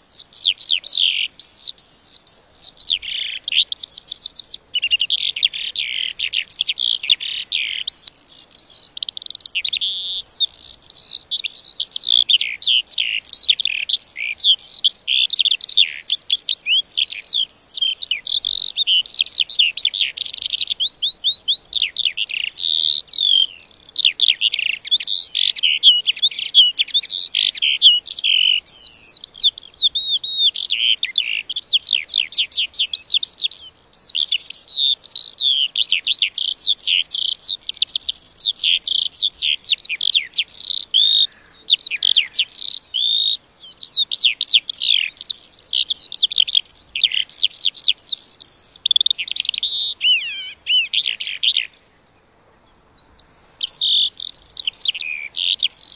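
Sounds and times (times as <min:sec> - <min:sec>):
lark singing: 0:00.0 - 0:52.0, 0:52.6 - 0:55.9.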